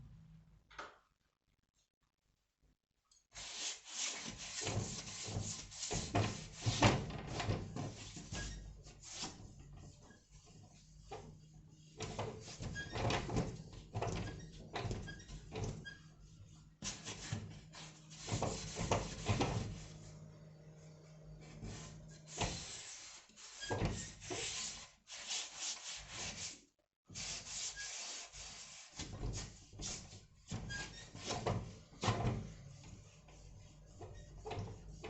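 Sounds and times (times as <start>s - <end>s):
rubbing and scraping on a surface: 3.3s - 20.4s, 21.4s - 35.0s.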